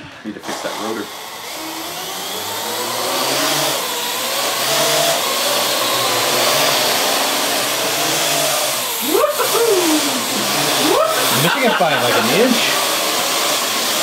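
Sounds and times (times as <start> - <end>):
drone propellers whirring: 0.5 - 14.0.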